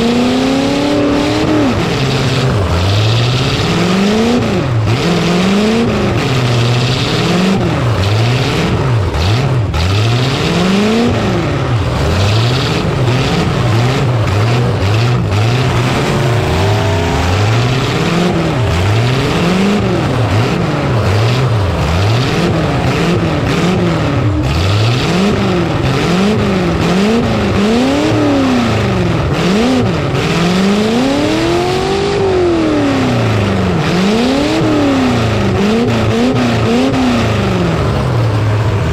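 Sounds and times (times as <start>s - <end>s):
din of running engines: 0.0s - 38.9s
truck engines revving: 0.0s - 38.9s.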